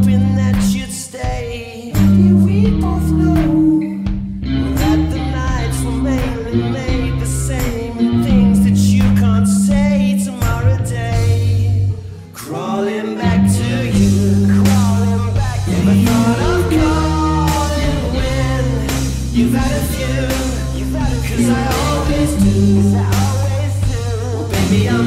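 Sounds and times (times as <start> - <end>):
heavy rock backing track: 0.0 - 12.4, 13.2 - 25.0
electric guitar playing: 2.0 - 25.0
voice in the mix: 4.8 - 25.0.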